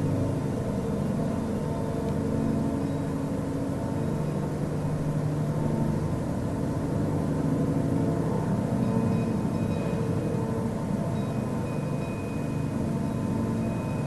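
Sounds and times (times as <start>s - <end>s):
low droning hum: 0.0s - 14.0s.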